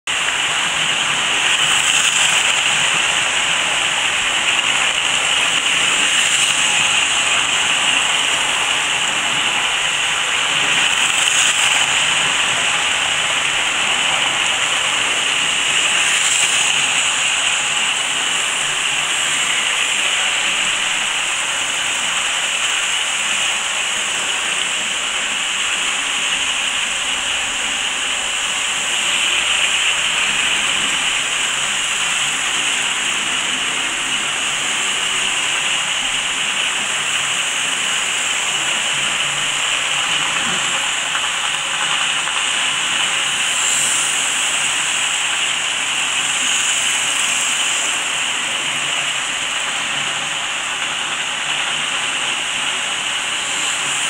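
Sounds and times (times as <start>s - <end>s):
model trains whirring on track: 0.0s - 54.0s.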